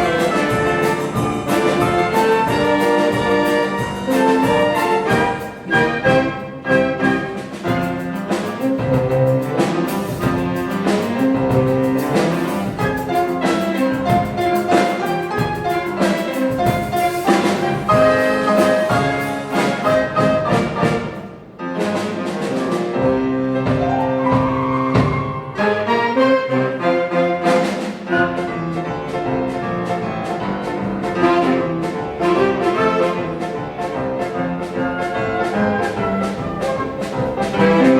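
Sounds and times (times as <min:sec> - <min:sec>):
brass band playing: 0:00.0 - 0:37.9
drums: 0:00.0 - 0:37.9.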